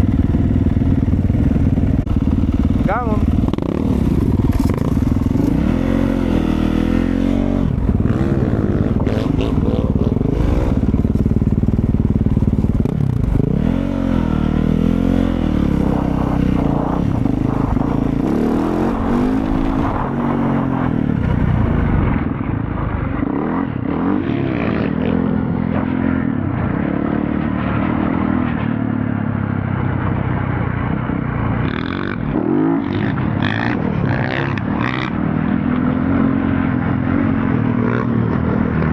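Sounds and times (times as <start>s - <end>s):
motorcycle engine revving while riding: 0.0s - 38.9s
steady rush of noise: 0.0s - 38.9s.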